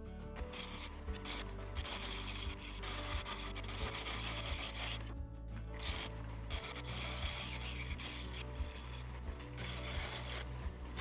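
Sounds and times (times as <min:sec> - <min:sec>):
turning tool scraping wood: 0:00.4 - 0:11.0.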